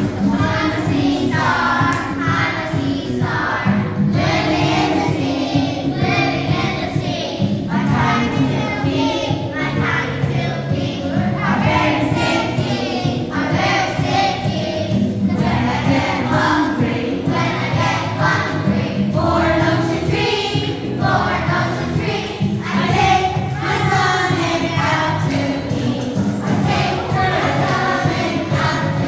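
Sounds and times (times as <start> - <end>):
children's choir singing: 0.0 - 29.0.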